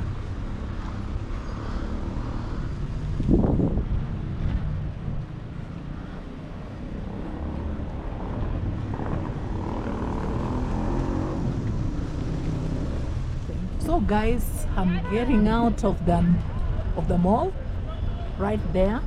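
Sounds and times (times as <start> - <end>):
low road rumble: 0.0 - 19.0.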